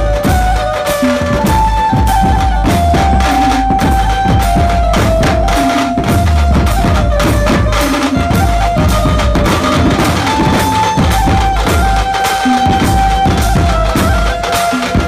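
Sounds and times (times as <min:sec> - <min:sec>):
high held melody: 0:00.0 - 0:15.0
loud drumming with bass drum: 0:00.0 - 0:15.0.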